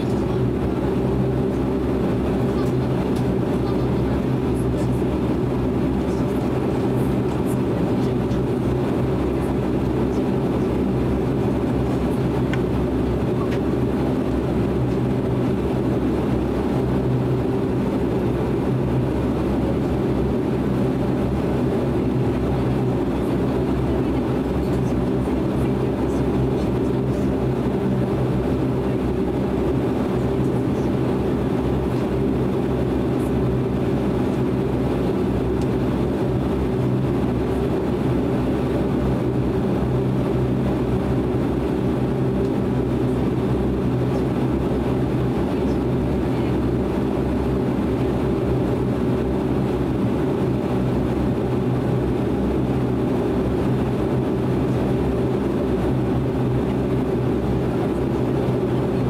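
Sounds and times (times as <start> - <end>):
turboprop cabin drone: 0.0 - 59.0.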